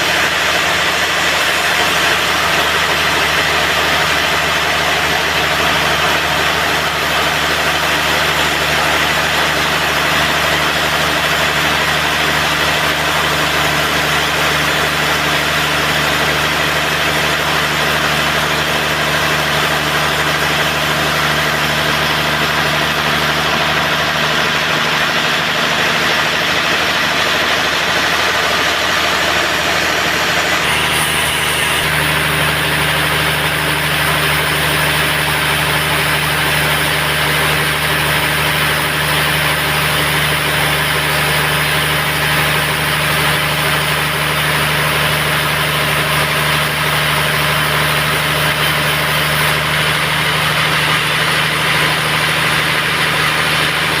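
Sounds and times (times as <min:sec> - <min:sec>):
band saw machine drone: 0:00.0 - 0:54.0.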